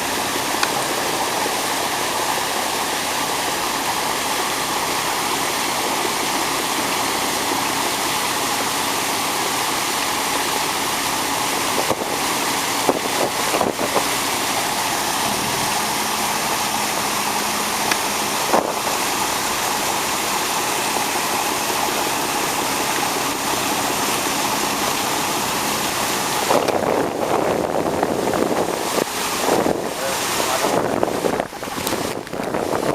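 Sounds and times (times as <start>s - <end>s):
water and wind rushing: 0.0s - 32.9s.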